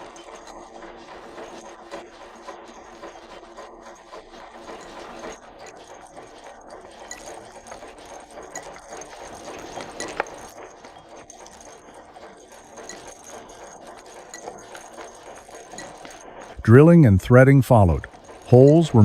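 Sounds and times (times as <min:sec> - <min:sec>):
machines rattling: 0:03.0 - 0:19.0.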